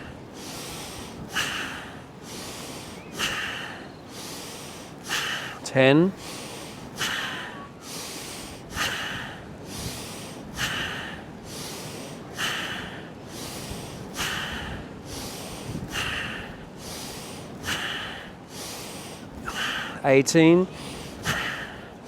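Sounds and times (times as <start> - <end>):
man breathing forcefully through nose: 0.0 - 20.0, 20.7 - 22.0.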